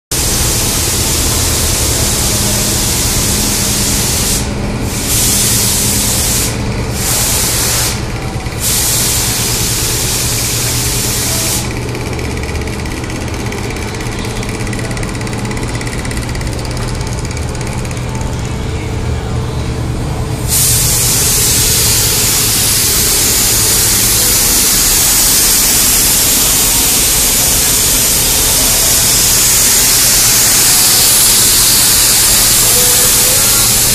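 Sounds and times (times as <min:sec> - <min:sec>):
air spray gun hissing: 0:00.1 - 0:18.3, 0:20.4 - 0:33.9.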